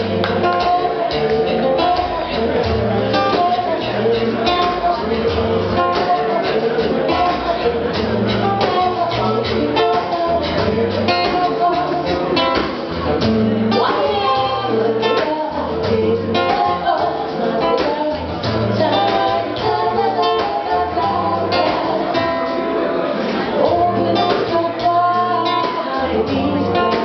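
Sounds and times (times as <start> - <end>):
acoustic guitar strumming: 0.0 - 27.0
women singing: 0.0 - 27.0.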